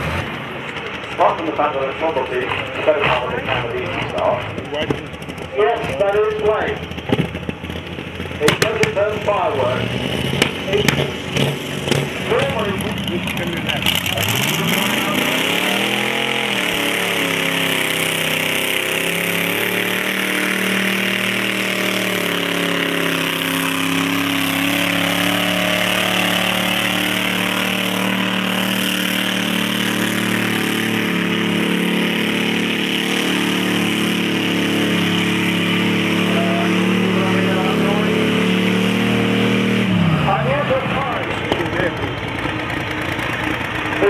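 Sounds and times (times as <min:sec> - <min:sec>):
tractor engine revving under load: 0:00.0 - 0:44.0.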